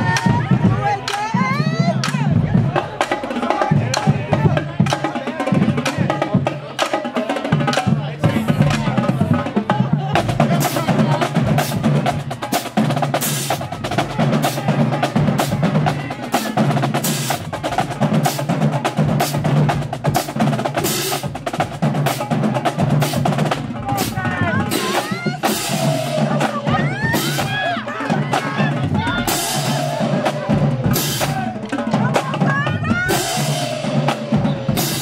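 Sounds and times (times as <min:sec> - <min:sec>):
rapid snare drum strokes: 0:00.0 - 0:35.0.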